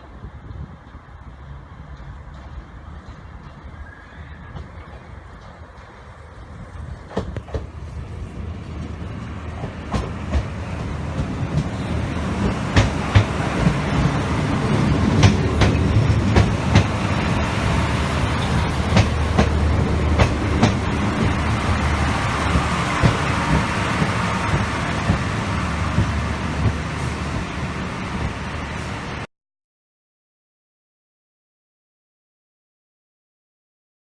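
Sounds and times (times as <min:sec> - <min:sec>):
diesel train passing: 0:00.0 - 0:29.3
train wheels clicking over rail joints: 0:01.8 - 0:29.2.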